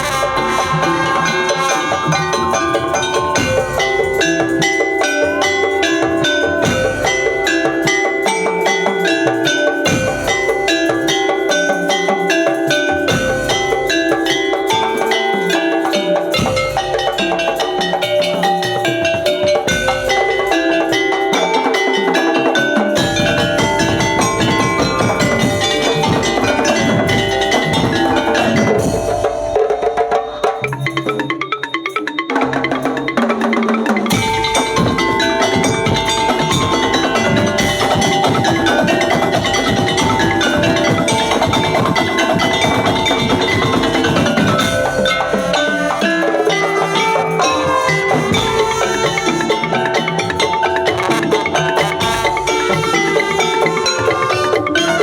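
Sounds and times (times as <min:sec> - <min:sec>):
drums: 0:00.0 - 0:55.0
tuned mallet percussion melody: 0:00.0 - 0:55.0.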